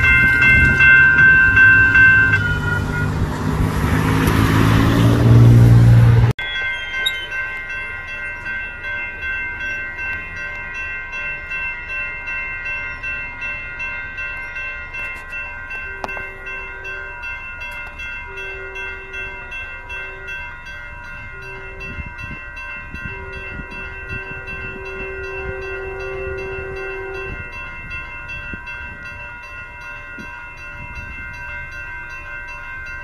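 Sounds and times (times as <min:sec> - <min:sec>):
passenger train rumbling: 0:00.0 - 0:33.0
railroad crossing bells ringing: 0:00.0 - 0:33.0.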